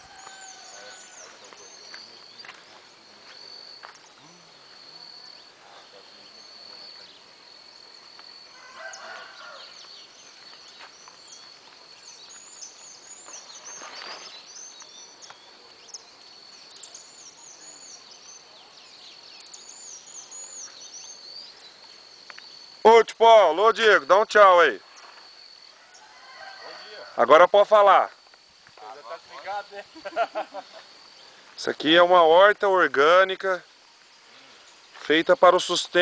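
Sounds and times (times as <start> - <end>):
birds chirping: 0.0 - 36.0
high insect whine: 0.0 - 36.0.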